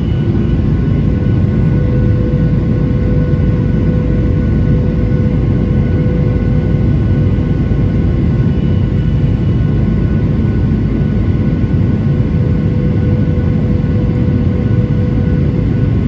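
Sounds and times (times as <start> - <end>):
jet engines rumbling: 0.0 - 16.0
steady hum tones: 0.0 - 16.0.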